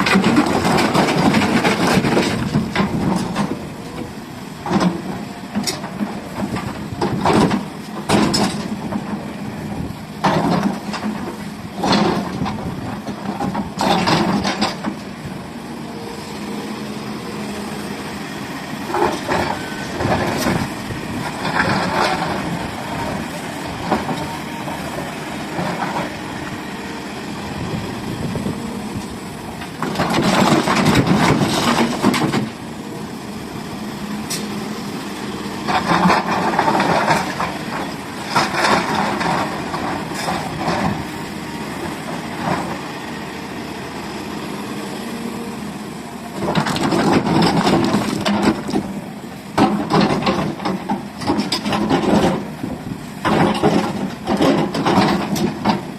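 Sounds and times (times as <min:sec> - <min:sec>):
excavator bucket clattering and scraping: 0:00.0 - 0:15.6, 0:16.7 - 0:33.2, 0:33.9 - 0:43.4, 0:46.2 - 0:55.9
excavator diesel engine running: 0:00.0 - 0:55.9.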